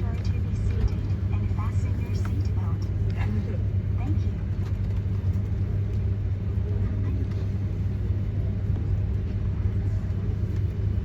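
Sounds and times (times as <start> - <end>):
airliner cabin ventilation hum: 0.0 - 11.0
faint passenger voices: 0.0 - 11.0.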